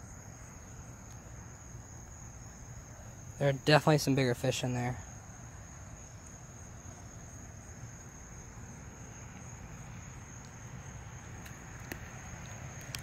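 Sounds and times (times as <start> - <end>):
cricket trilling: 0.0 - 13.0
road traffic rumble: 0.0 - 13.0.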